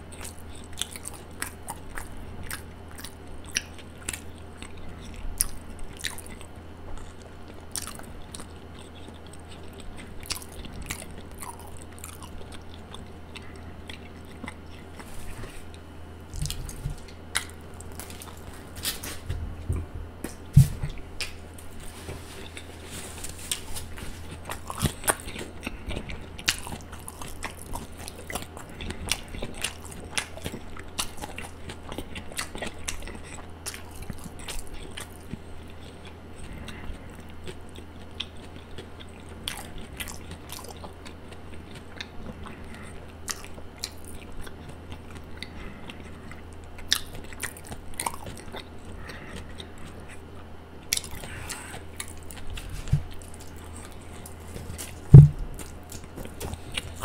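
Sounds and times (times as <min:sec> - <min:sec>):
steady low hum: 0:00.0 - 0:57.0
wet chewing and mouth smacks: 0:00.1 - 0:19.1, 0:23.4 - 0:50.2, 0:50.8 - 0:57.0.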